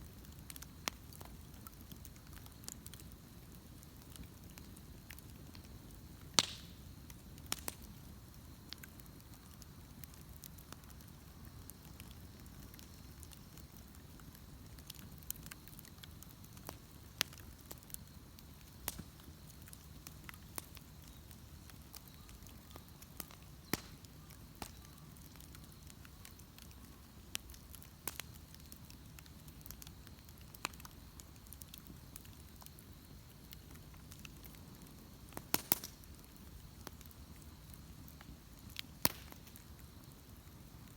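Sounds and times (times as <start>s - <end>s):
bonfire crackling: 0.0s - 40.9s.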